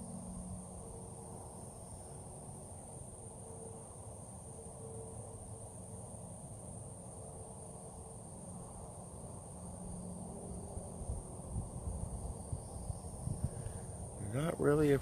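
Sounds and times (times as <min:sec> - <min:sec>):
insects buzzing steadily: 0:00.0 - 0:15.0
low outdoor rumble: 0:00.0 - 0:15.0.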